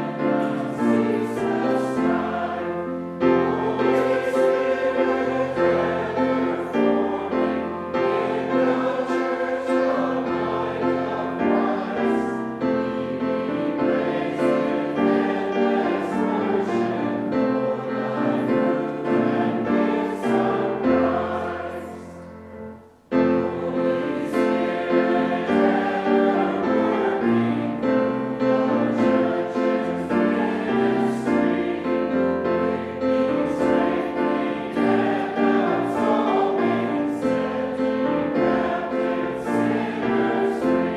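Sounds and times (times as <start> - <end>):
choir singing: 0.0 - 40.9
instrumental accompaniment: 0.0 - 40.9.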